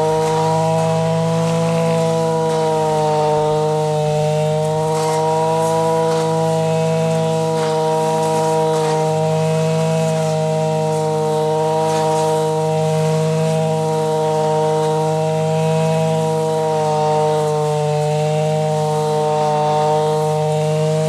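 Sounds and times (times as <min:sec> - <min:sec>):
brush cutter engine buzzing: 0:00.0 - 0:21.0.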